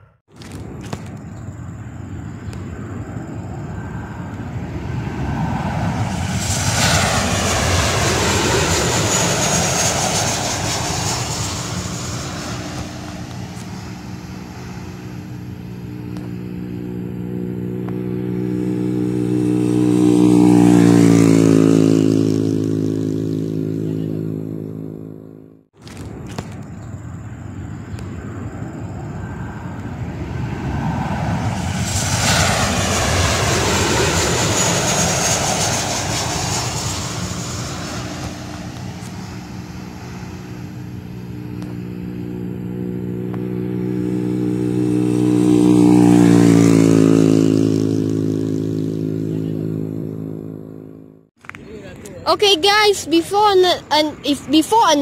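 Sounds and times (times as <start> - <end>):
jet airliner engines passing overhead: 0.0 - 55.0.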